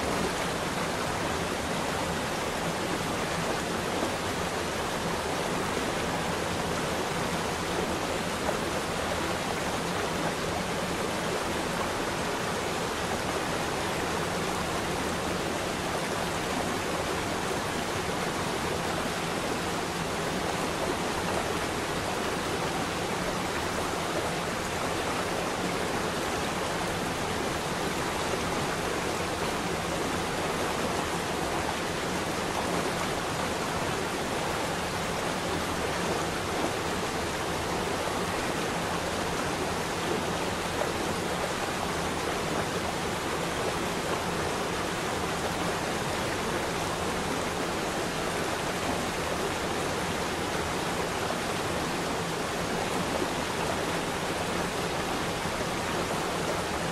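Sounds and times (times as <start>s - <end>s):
running water rushing: 0.0s - 56.9s.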